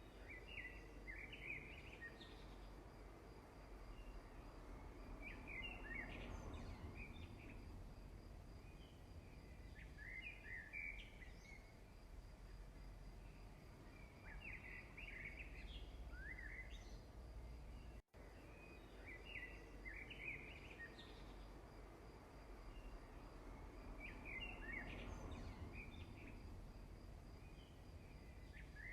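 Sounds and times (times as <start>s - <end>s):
faint birds chirping: 0.0s - 28.9s.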